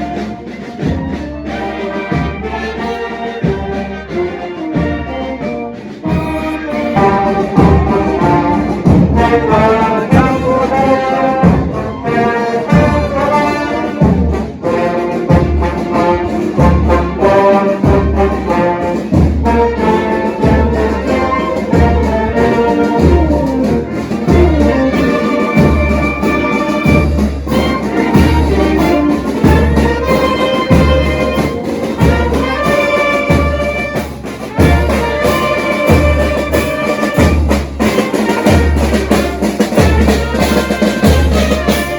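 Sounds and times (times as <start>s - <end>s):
brass-led orchestra playing: 0.0s - 41.9s.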